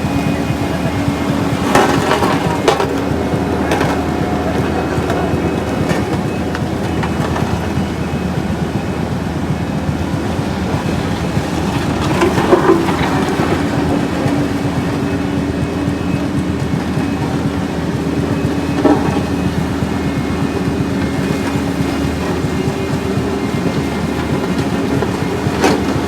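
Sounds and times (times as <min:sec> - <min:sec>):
clunks: 0:00.0 - 0:26.0
heavy vehicle engine rumbling: 0:00.0 - 0:26.0.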